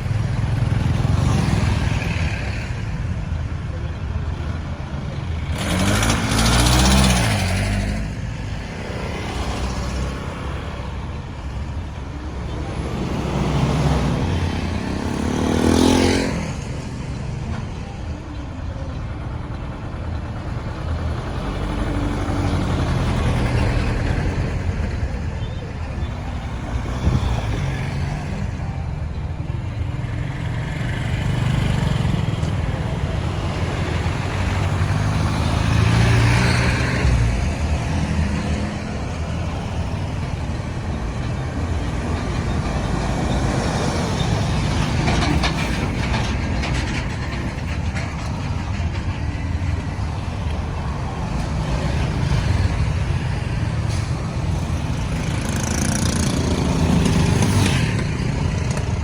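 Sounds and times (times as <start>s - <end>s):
road traffic rumble: 0.0s - 59.0s
vehicles passing: 0.0s - 59.0s.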